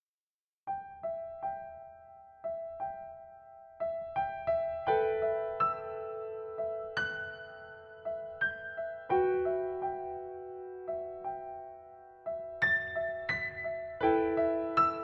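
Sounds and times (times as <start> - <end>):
slow gentle piano piece: 0.7 - 15.0.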